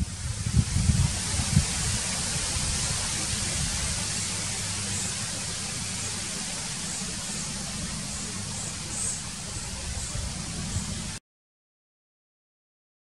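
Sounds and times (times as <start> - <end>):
wind on microphone: 0.0 - 11.2.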